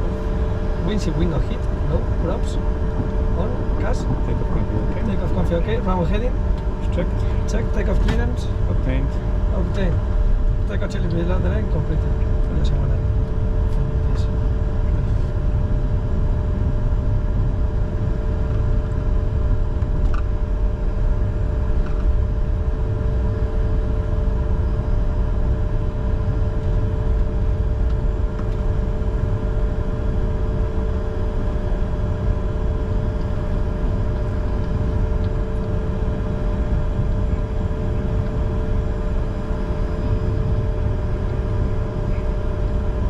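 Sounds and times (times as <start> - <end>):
jet engines idling in cockpit: 0.0 - 43.0.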